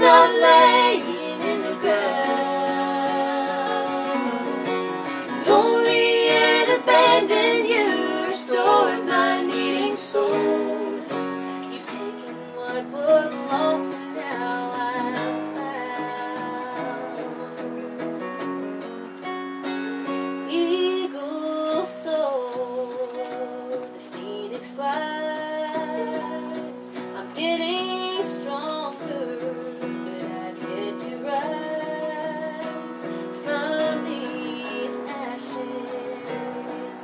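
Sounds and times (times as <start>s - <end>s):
women singing in harmony: 0.0s - 18.2s, 20.5s - 37.0s
acoustic guitar: 0.0s - 37.0s.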